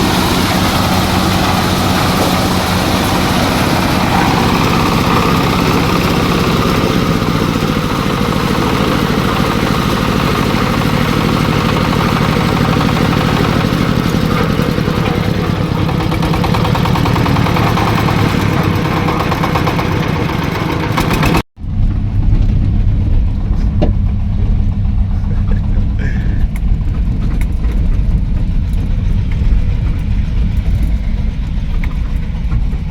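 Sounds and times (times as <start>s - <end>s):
corn sheller running: 0.0s - 32.9s
deep engine rumble: 0.0s - 32.9s.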